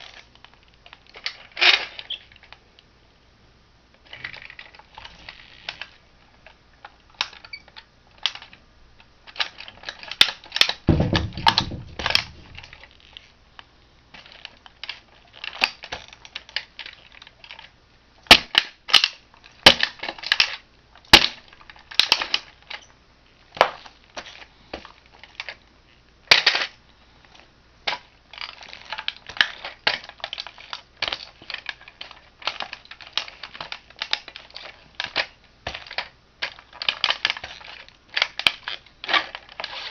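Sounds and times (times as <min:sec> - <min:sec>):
plastic toy cracking and crunching: 0:00.0 - 0:02.6, 0:04.0 - 0:25.6, 0:26.2 - 0:26.8, 0:27.8 - 0:39.9.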